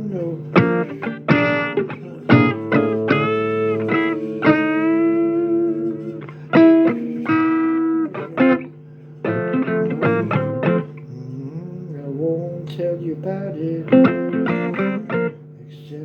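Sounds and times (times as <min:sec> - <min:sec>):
electric guitar bending notes: 0:00.0 - 0:11.7, 0:13.4 - 0:15.5
person singing: 0:00.0 - 0:16.0.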